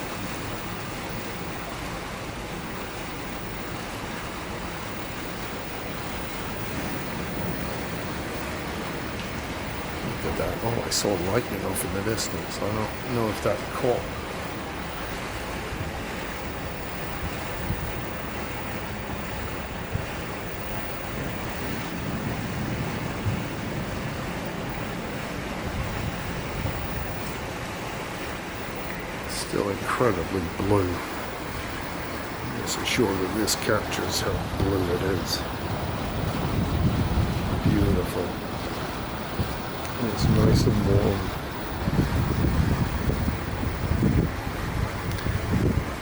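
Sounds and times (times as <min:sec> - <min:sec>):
storm wind and water rushing: 0:00.0 - 0:46.0.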